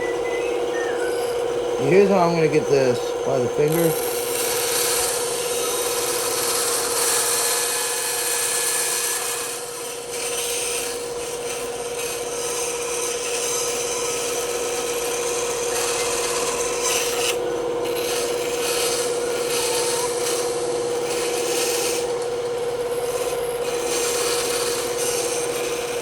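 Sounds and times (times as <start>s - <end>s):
bandsaw cutting wood: 0.0s - 26.0s.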